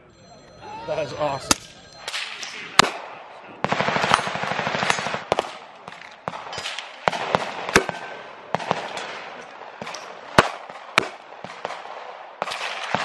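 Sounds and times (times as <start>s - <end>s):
gunshots: 1.4s - 13.0s.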